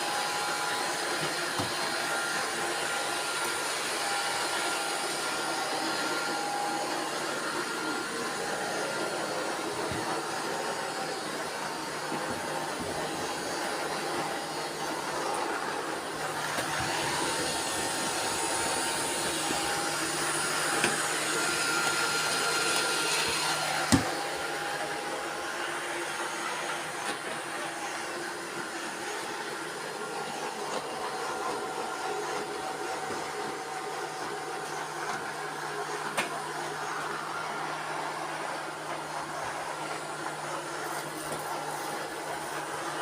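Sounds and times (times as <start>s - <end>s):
robot vacuum cleaners whirring: 0.0s - 43.0s.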